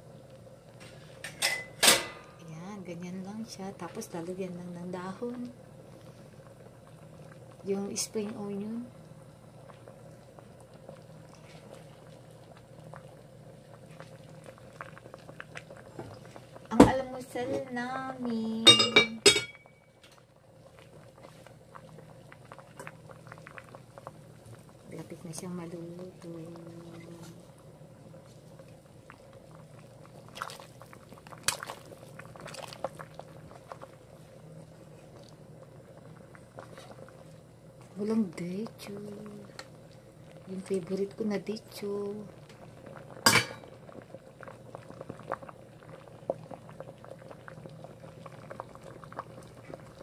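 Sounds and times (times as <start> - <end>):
broth boiling with bubbling pops: 0.0 - 50.0
low steady hum: 0.0 - 50.0.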